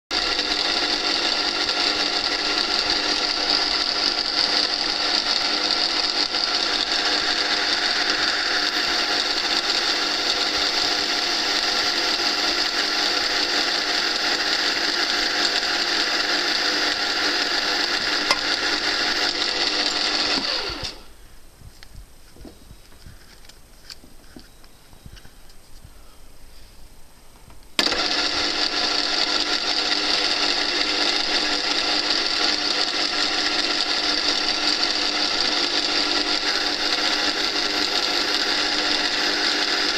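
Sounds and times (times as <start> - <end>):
lathe spindle whine: 0.1 - 21.1, 27.8 - 39.9.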